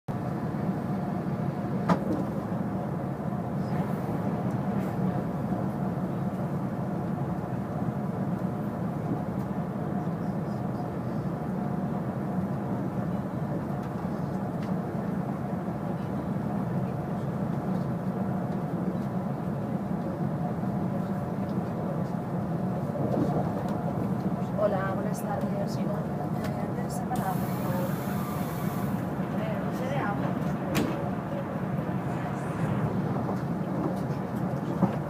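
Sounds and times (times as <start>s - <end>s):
high-speed train rumble: 0.1s - 35.0s.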